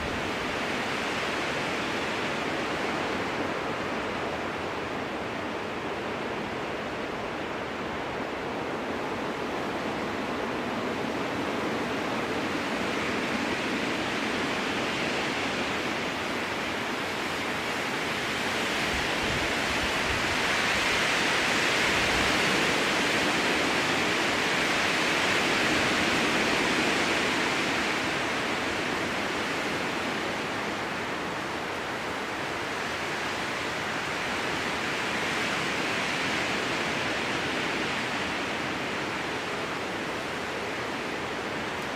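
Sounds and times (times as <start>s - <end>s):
strong wind rushing through trees: 0.0s - 41.9s.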